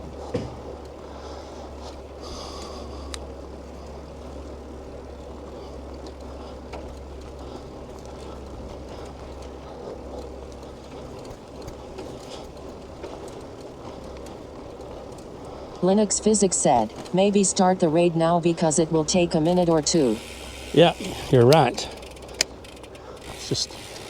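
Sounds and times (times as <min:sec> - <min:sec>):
wind and road noise: 0:00.0 - 0:24.0
faint clicks: 0:01.8 - 0:04.0, 0:05.6 - 0:17.8, 0:18.8 - 0:24.0.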